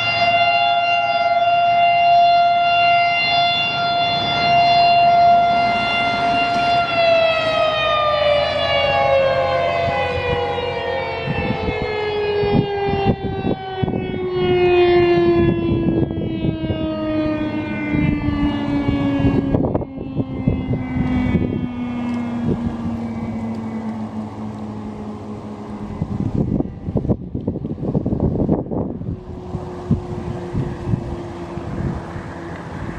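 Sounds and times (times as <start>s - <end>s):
warning siren winding down: 0.0s - 32.9s.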